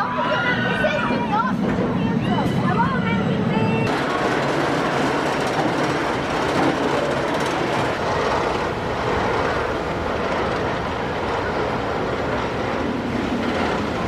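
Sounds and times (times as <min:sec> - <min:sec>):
roller coaster lift chain clatter: 0:00.0 - 0:03.0, 0:03.9 - 0:14.0.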